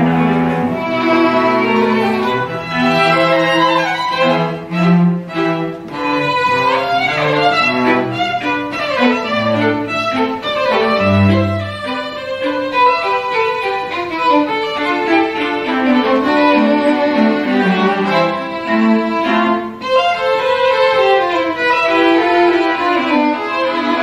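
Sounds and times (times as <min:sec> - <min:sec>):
string quartet playing: 0:00.0 - 0:24.0.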